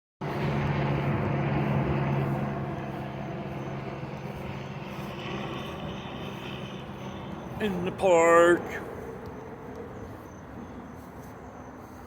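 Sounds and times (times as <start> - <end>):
low engine drone: 0.2 - 12.0
traffic hum: 0.2 - 12.0.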